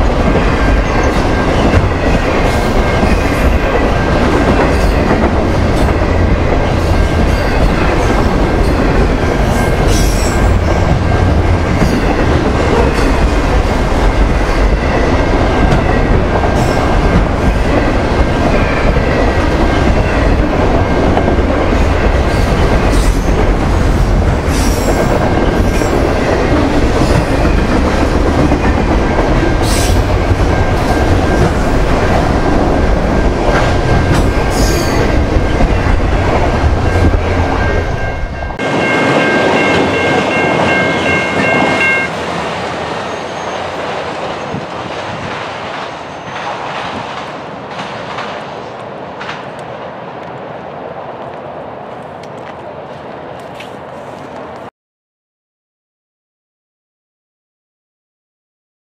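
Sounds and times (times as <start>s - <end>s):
train wheels rumbling on rail: 0.0s - 54.7s.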